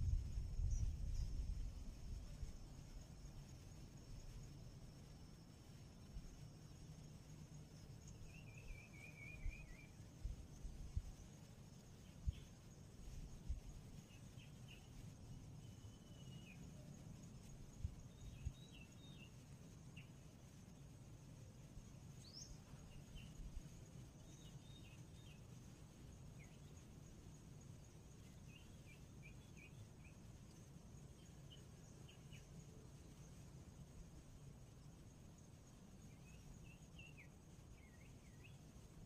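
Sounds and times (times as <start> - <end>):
high insect drone: 0.0 - 39.0
small birds chirping: 0.5 - 33.6, 34.3 - 39.0.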